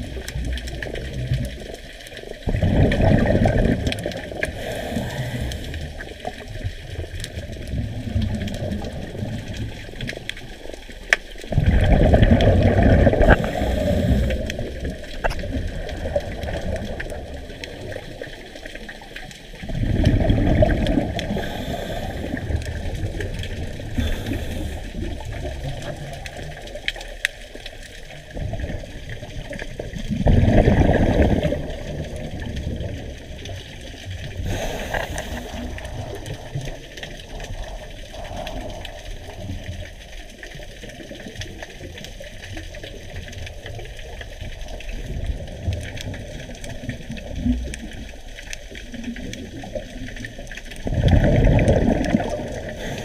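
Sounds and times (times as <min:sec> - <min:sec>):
underwater exhaled bubbles: 0:00.0 - 0:53.0
underwater water noise: 0:00.0 - 0:53.0.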